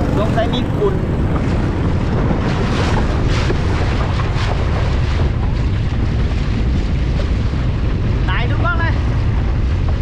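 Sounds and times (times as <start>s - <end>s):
boat engine: 0.0s - 10.0s
water rushing past boat: 0.0s - 10.0s
wind buffeting microphone: 0.0s - 10.0s.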